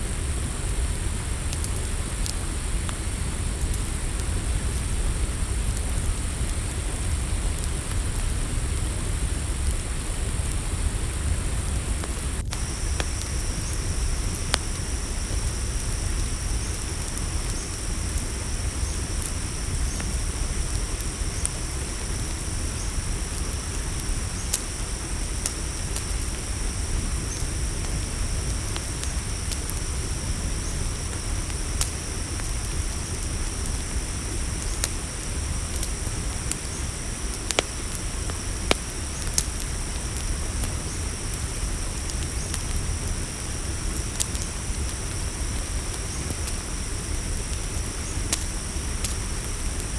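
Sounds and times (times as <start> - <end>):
crickets chirping: 0.0 - 49.9
lower cricket tone: 0.0 - 49.9
campfire crackling and popping: 0.1 - 49.9.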